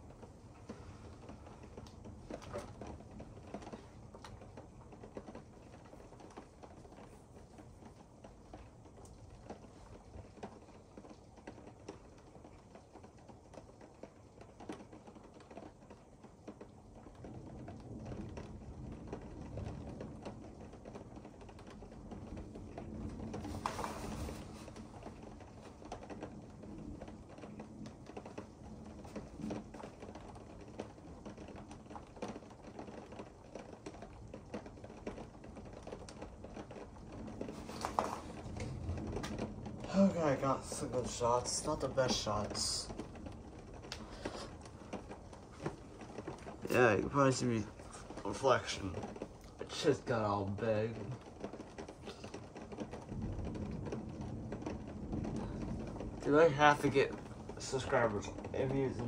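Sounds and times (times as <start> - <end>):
rain pattering on a window: 0.0 - 59.0.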